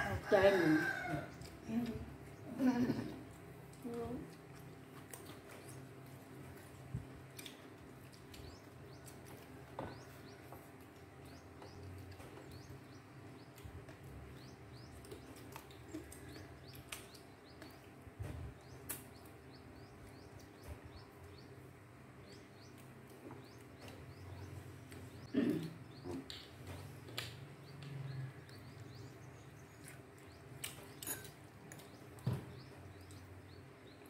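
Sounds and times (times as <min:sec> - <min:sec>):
small birds chirping: 0:00.2 - 0:34.0.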